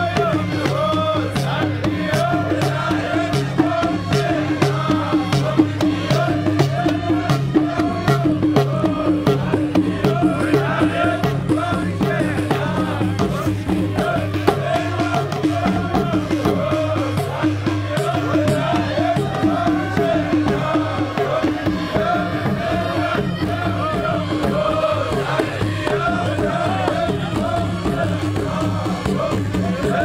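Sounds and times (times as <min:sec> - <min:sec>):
group chanting: 0:00.0 - 0:30.0
rhythmic percussion: 0:00.0 - 0:30.0.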